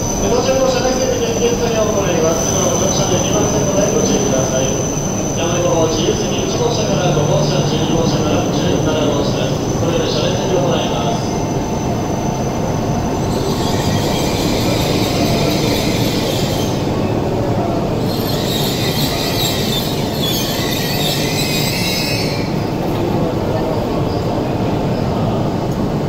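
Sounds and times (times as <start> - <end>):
train running gear rumble: 0.0 - 26.0.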